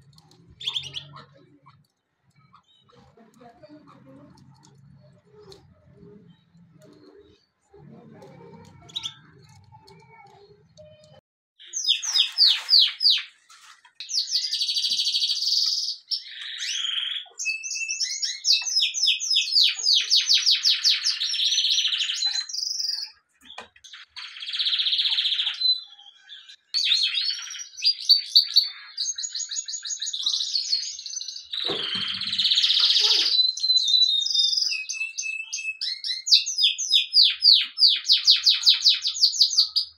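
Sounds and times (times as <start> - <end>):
canary singing trills: 0.0 - 13.4, 14.0 - 39.9.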